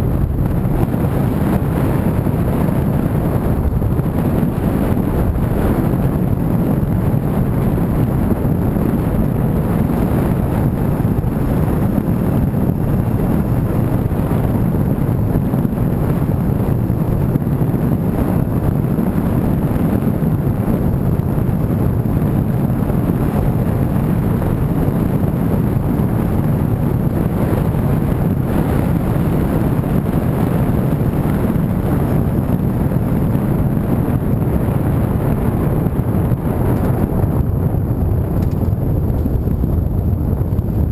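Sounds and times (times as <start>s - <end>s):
car road and engine noise: 0.0s - 40.9s
wind noise on microphone: 0.0s - 40.9s.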